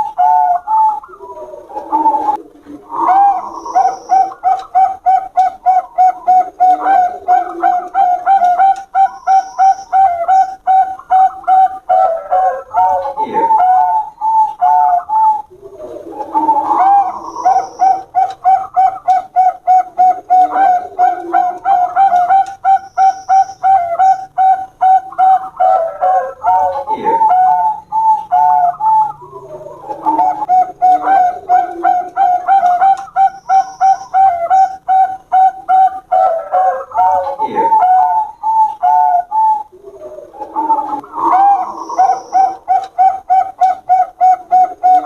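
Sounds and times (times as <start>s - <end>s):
doves cooing: 0.0s - 45.0s.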